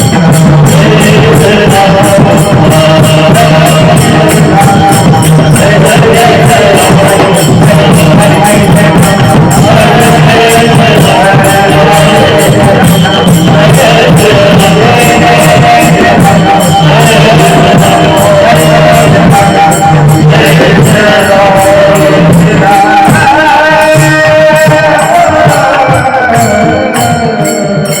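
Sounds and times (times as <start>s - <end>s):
devotional singing: 0.0s - 28.0s
steady percussion beat: 0.0s - 28.0s.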